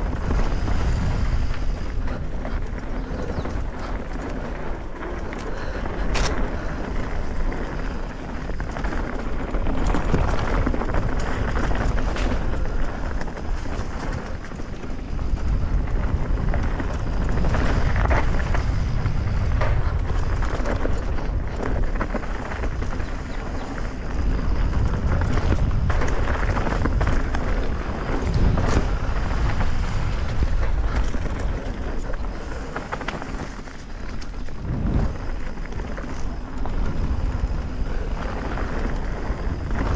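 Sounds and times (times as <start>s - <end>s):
bike knocking and rattling: 0.0s - 39.9s
bike tyres rolling on dirt: 0.0s - 39.9s
wind buffeting microphone: 0.0s - 39.9s.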